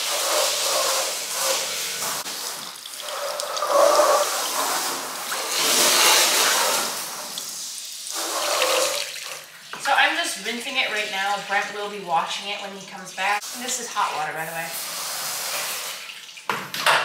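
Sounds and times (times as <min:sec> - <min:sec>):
water running and splashing: 0:00.0 - 0:16.5.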